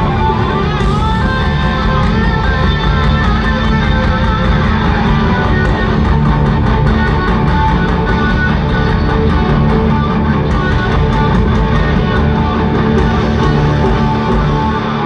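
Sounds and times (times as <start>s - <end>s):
bass and drums: 0.0s - 15.0s
electric guitar: 0.0s - 15.0s.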